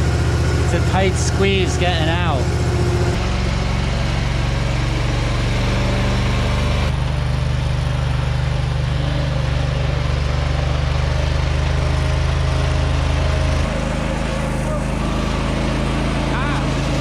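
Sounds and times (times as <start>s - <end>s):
mini-dozer engine running: 0.0s - 17.0s.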